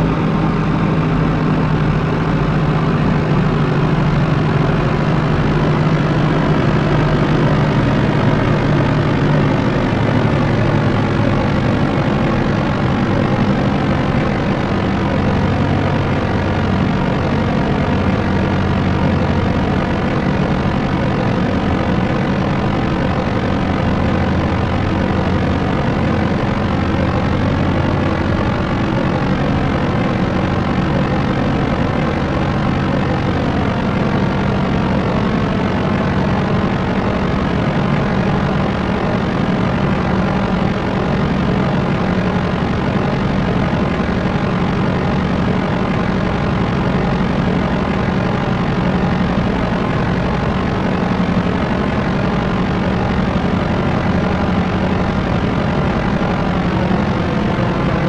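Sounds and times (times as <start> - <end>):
propeller aircraft engines droning: 0.0 - 58.0.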